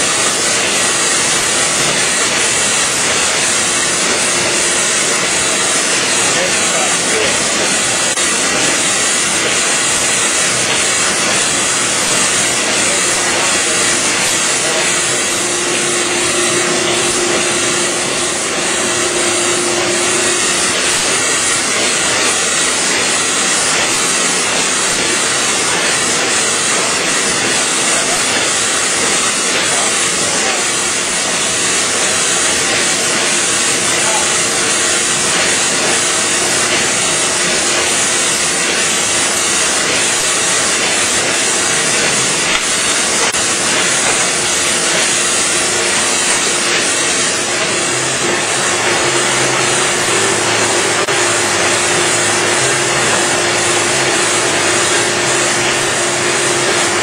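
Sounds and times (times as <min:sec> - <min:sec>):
printing machine din with hiss: 0:00.0 - 0:57.0.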